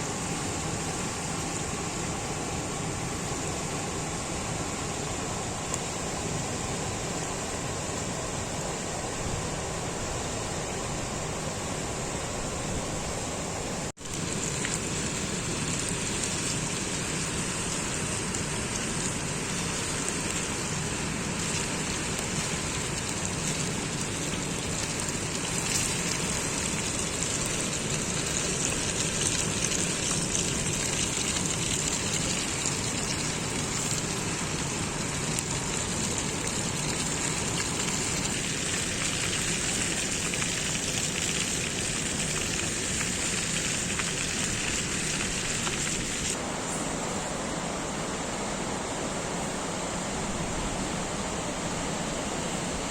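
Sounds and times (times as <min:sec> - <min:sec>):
hot oil sizzling: 0:00.0 - 0:47.2.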